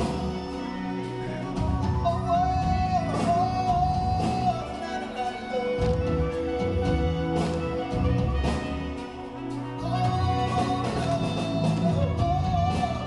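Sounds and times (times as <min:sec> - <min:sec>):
melody over bass and percussion: 0:00.0 - 0:13.0.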